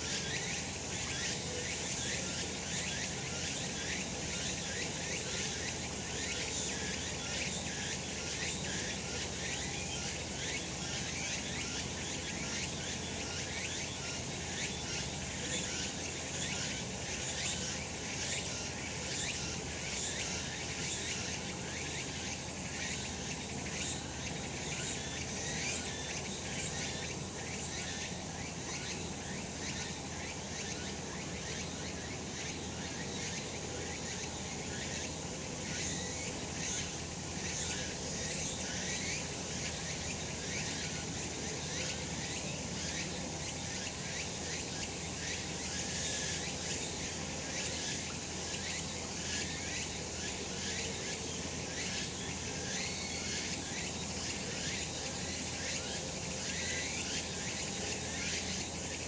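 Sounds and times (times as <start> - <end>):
cicadas buzzing chorus: 0.0 - 59.0.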